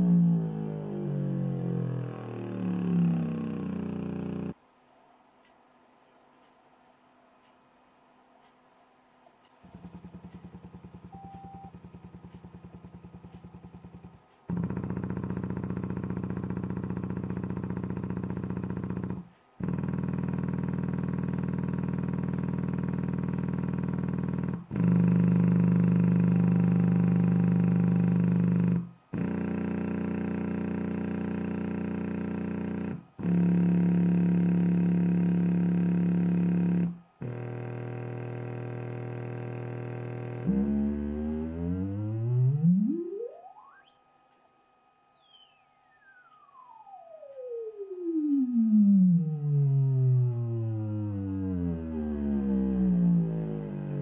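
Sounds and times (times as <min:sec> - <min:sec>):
buzzy subwoofer test tones: 0:00.0 - 0:04.6, 0:09.5 - 0:54.0.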